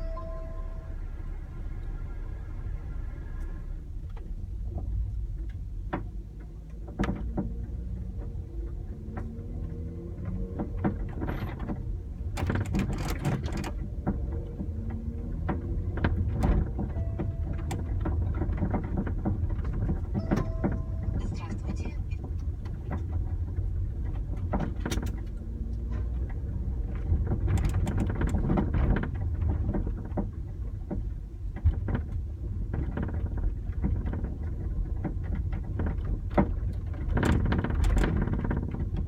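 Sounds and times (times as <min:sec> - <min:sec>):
low driving rumble: 0:00.0 - 0:39.0
knocking and rattling in car: 0:04.0 - 0:39.0.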